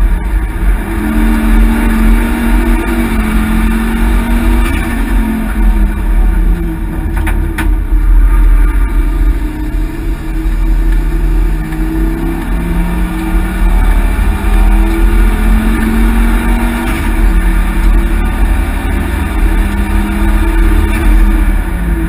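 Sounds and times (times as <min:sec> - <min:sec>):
car engine pulling hard: 0:00.0 - 0:22.0
road and wind noise: 0:00.0 - 0:22.0.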